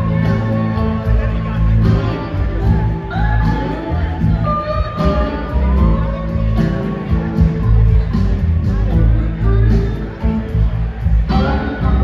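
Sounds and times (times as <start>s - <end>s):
rock band playing slow blues: 0.0s - 12.0s.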